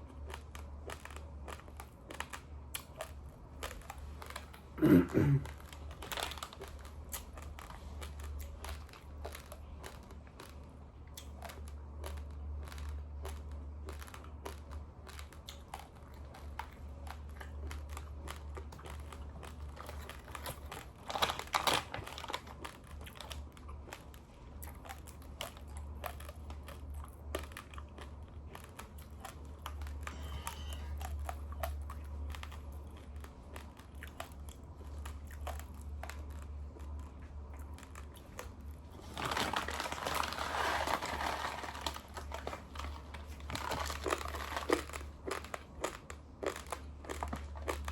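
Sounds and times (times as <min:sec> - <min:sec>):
chewing raw rice: 0:00.0 - 0:47.9.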